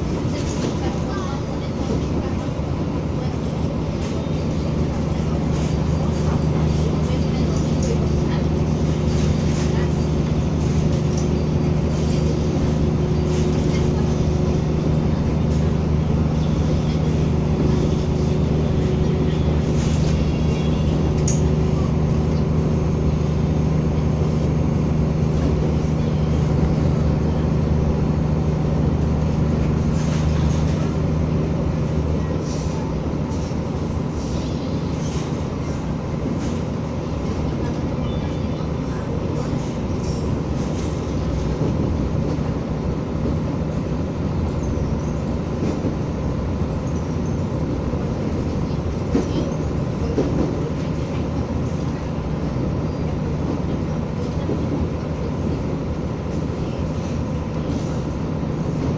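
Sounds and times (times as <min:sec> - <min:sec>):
diesel railcar engine drone: 0:00.0 - 0:58.9
rail and wheel noise: 0:00.0 - 0:58.9.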